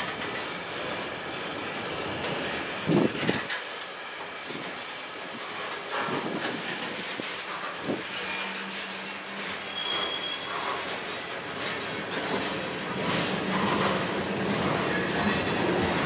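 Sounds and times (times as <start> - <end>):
train rumble: 0.0 - 16.0
wheels clacking over rail joints: 0.0 - 16.0.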